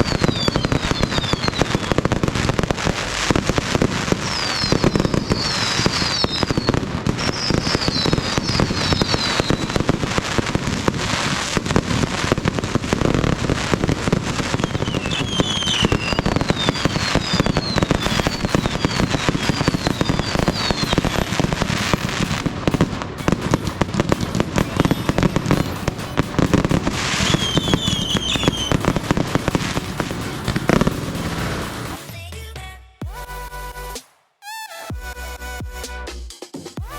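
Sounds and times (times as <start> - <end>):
fireworks whistling: 0.0 - 32.2
fireworks crackling and banging: 0.0 - 33.2.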